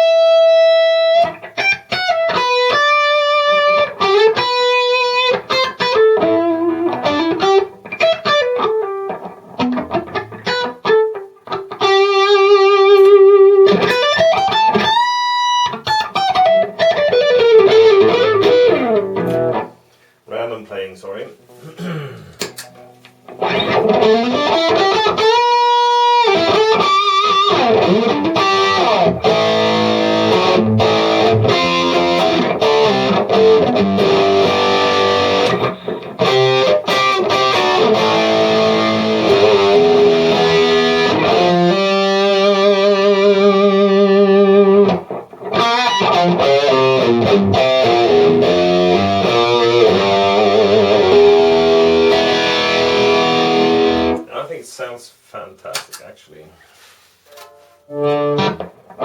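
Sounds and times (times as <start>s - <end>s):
overdriven electric guitar: 0.0s - 20.0s, 22.4s - 54.3s, 57.3s - 59.0s.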